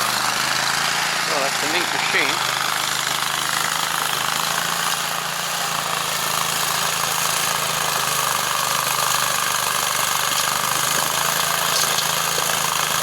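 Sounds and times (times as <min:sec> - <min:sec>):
stump grinder engine running: 0:00.0 - 0:13.0.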